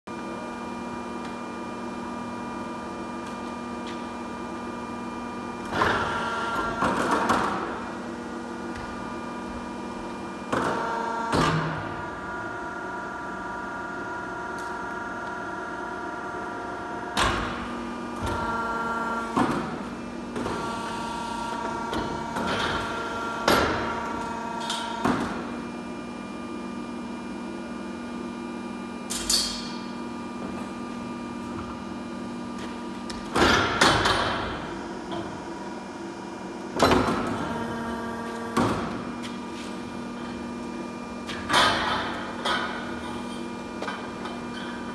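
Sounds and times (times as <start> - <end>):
pipe-bending machine humming: 0.1 - 44.9.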